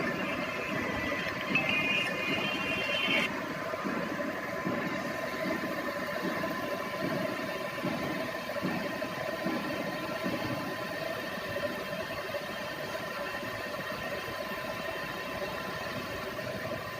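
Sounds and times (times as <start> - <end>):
milling machine humming and whining: 0.0 - 16.9.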